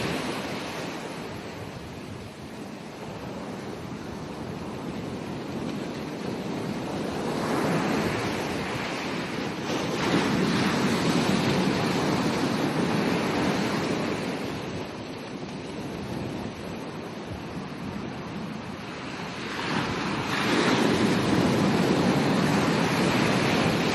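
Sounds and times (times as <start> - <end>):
ocean waves breaking: 0.0 - 23.9
wind noise on microphone: 0.0 - 23.9.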